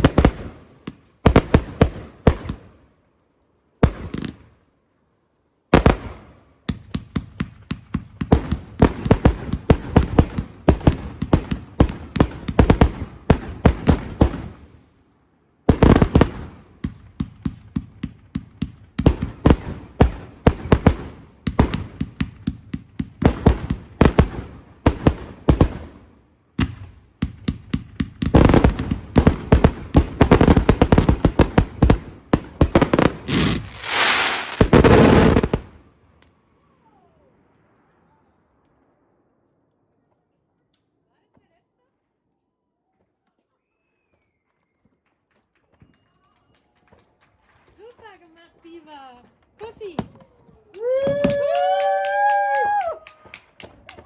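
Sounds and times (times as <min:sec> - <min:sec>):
fireworks banging and crackling: 0:00.0 - 0:04.6, 0:05.7 - 0:39.2, 0:43.4 - 0:54.0.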